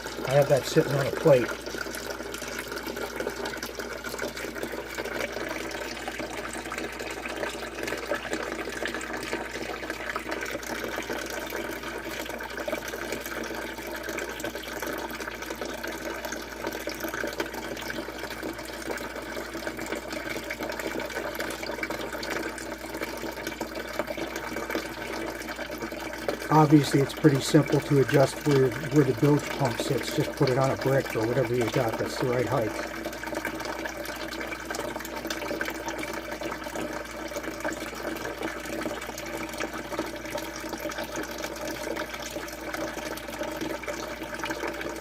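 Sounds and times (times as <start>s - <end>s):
water running into pit: 0.0s - 45.0s.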